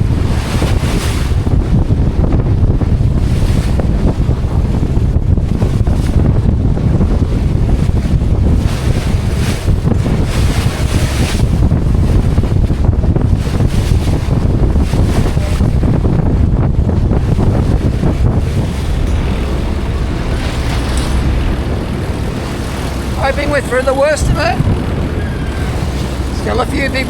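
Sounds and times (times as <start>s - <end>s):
sea waves breaking: 0.0s - 27.0s
wind buffeting microphone: 0.0s - 27.0s.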